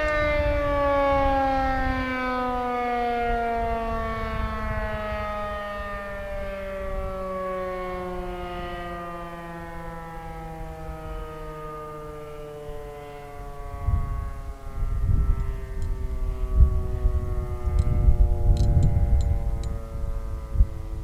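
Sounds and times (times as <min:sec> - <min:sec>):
warning siren winding down: 0:00.0 - 0:21.0.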